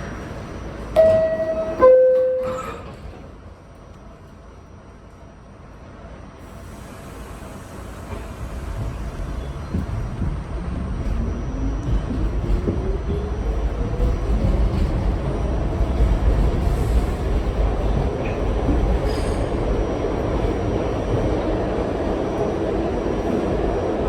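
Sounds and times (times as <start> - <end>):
subway car rumbling on track: 0.0 - 24.0.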